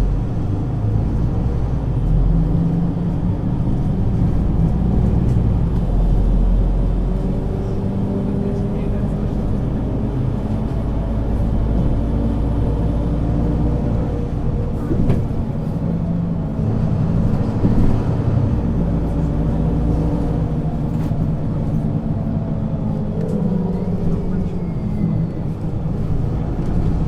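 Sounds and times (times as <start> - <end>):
bus engine running: 0.0 - 27.0.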